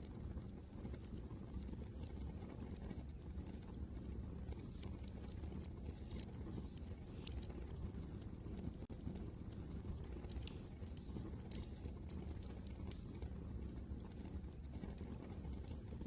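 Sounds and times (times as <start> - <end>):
low rumble of wind: 0.0 - 16.0
wood fire crackling: 0.0 - 16.0.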